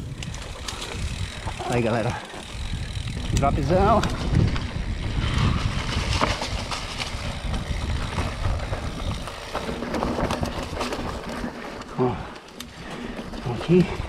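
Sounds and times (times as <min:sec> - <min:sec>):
bike rattling over bumps: 0:00.0 - 0:14.0
bike tyres rumbling over dirt: 0:00.0 - 0:14.0.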